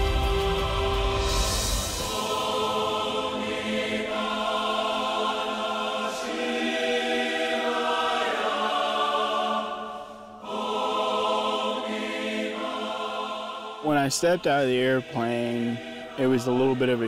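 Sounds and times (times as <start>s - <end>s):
choral chords: 0.0s - 17.0s.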